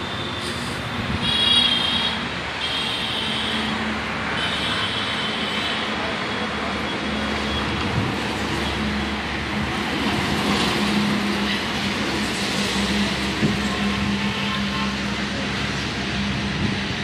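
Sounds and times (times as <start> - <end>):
road traffic hum: 0.0 - 17.0.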